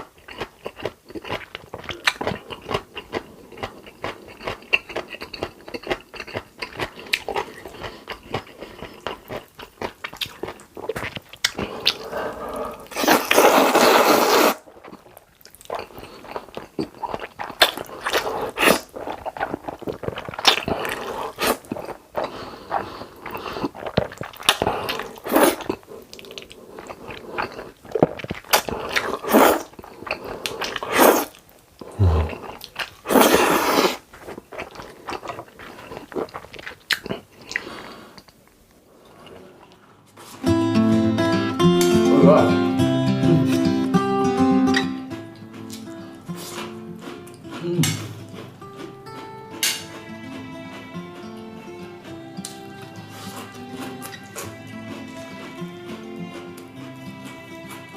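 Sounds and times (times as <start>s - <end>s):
chewing and crunching: 0.0s - 40.4s, 45.2s - 57.9s.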